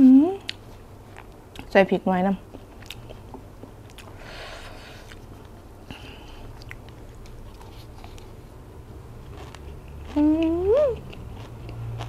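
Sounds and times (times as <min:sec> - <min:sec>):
chewing food close up: 0:00.4 - 0:01.7, 0:02.4 - 0:04.2, 0:04.8 - 0:12.0.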